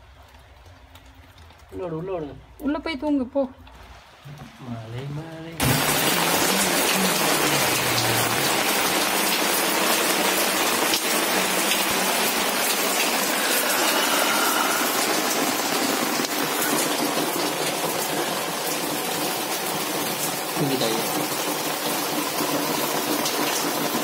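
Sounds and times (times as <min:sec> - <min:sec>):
heavy rain pouring: 0:00.0 - 0:24.0
sharp raindrops striking surfaces: 0:00.0 - 0:24.0.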